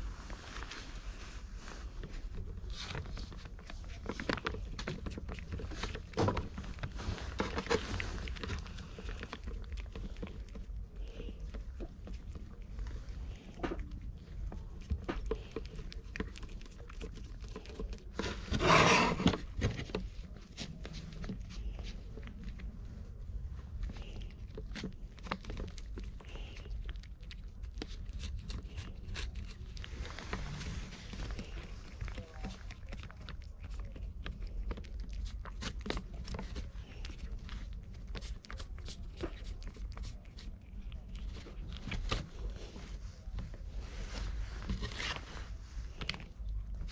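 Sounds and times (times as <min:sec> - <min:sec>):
low steady rumble: 0:00.0 - 0:46.9
cat chewing and licking clicks: 0:02.0 - 0:18.5, 0:19.3 - 0:43.6.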